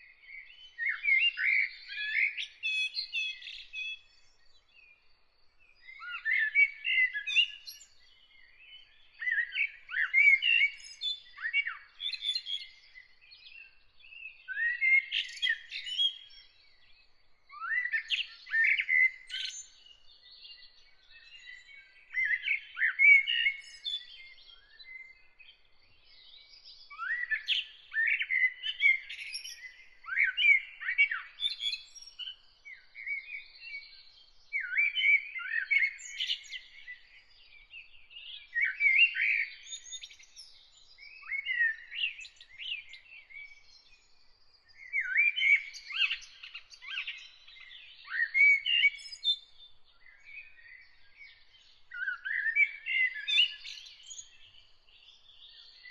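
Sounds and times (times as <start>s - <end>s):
songbird chirping and whistling: 5.8s - 13.1s, 14.4s - 16.6s, 17.5s - 25.6s, 26.4s - 37.3s, 38.1s - 44.1s, 44.7s - 55.9s.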